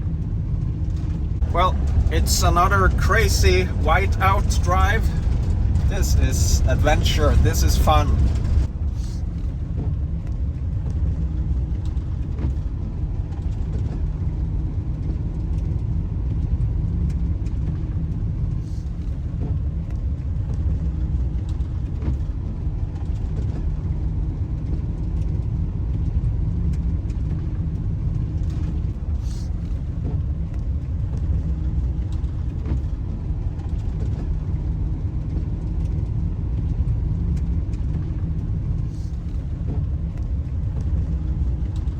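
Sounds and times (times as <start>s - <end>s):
van engine and road noise: 0.0s - 41.9s.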